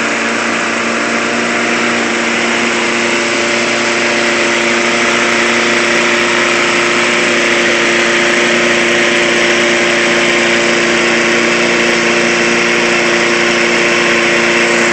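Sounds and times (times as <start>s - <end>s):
lawn mower engine humming: 0.0s - 14.9s.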